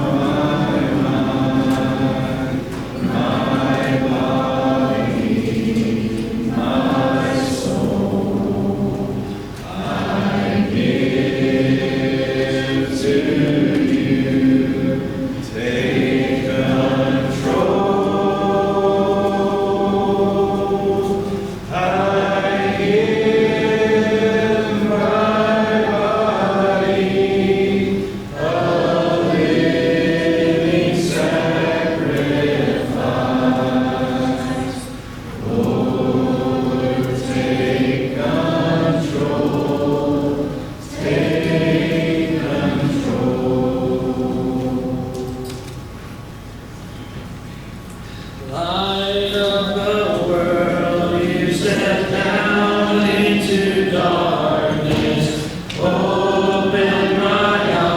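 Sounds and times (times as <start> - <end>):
congregation singing a hymn: 0.0 - 57.9.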